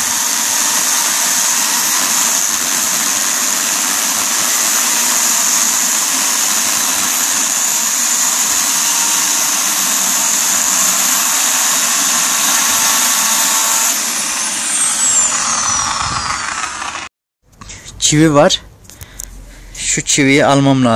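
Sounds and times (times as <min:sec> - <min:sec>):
electric chainsaw cutting wood: 0:00.0 - 0:17.1.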